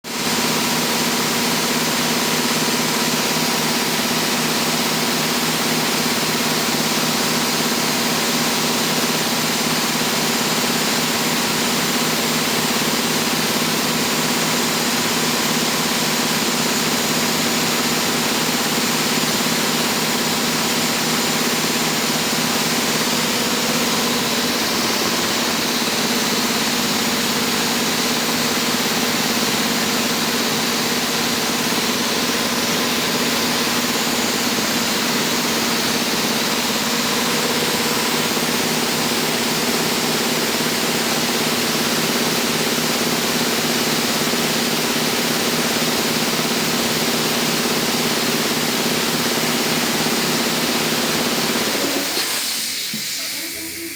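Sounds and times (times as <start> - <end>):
machine humming with hiss: 0.2 - 53.9.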